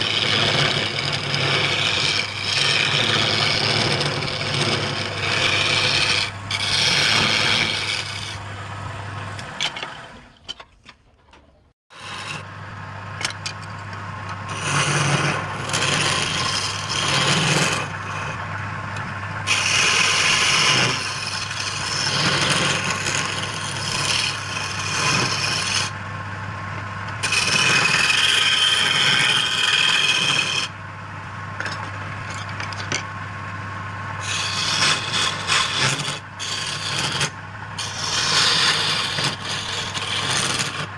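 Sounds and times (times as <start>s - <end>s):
wood being cut and scraped: 0.0s - 10.3s, 11.9s - 26.0s, 27.0s - 40.9s
wood lathe humming: 0.0s - 10.3s, 12.0s - 40.9s.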